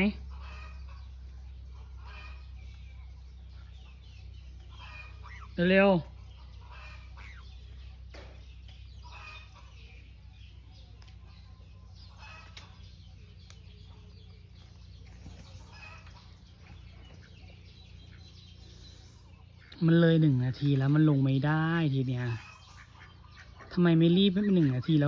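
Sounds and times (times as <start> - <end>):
chickens clucking: 0.0 - 25.0
low steady hum: 0.0 - 25.0.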